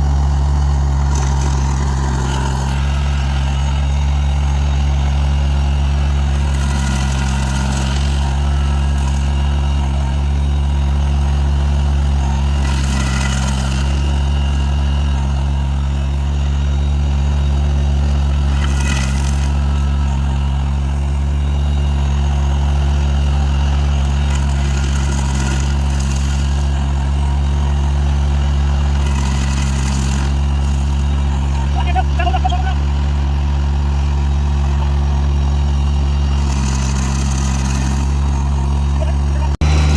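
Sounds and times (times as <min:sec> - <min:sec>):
stump grinder cutting: 0:00.0 - 0:39.9
tractor diesel engine running: 0:00.0 - 0:39.9.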